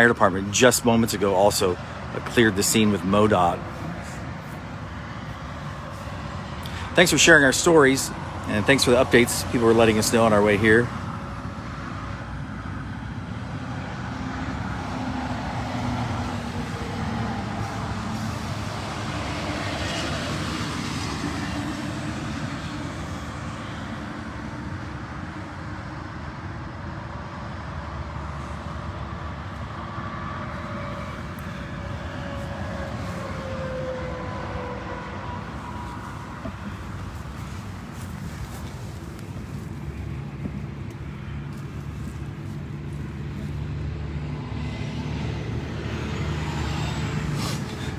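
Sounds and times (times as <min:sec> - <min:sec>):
highway traffic rushing: 0:00.0 - 0:47.9
passing vehicle engine: 0:00.0 - 0:47.9.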